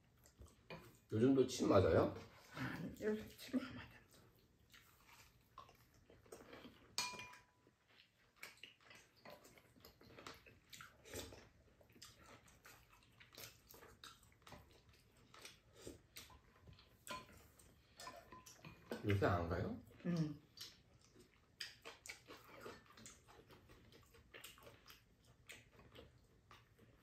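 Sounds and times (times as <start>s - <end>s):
soft chewing and sipping: 0.0s - 27.0s.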